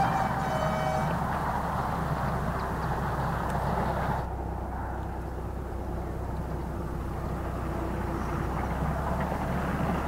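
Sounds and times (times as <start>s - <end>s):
train rumbling along track: 0.0s - 10.0s.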